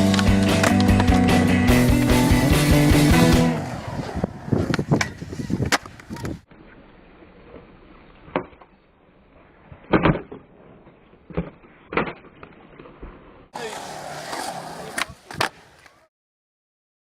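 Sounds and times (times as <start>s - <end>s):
skateboard rolling rumble: 0.0s - 16.1s.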